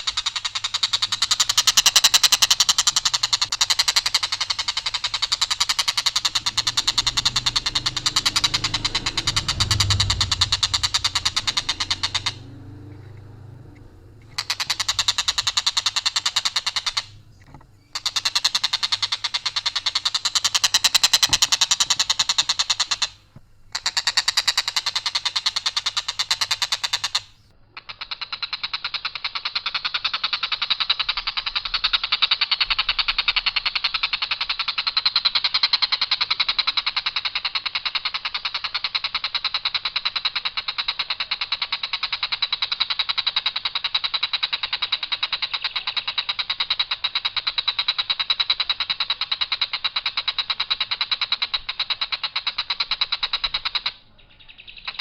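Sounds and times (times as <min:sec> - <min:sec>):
kingfisher rattling call: 0:00.0 - 0:55.0.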